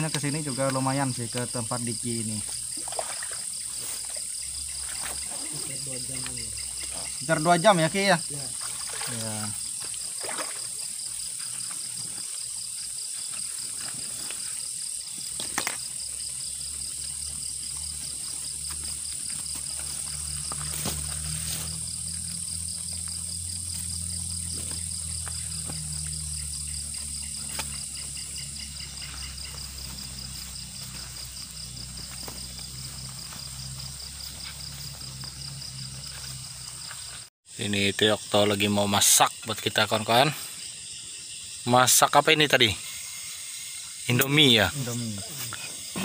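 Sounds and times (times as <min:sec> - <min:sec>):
crickets and insects trilling: 0:00.0 - 0:46.0.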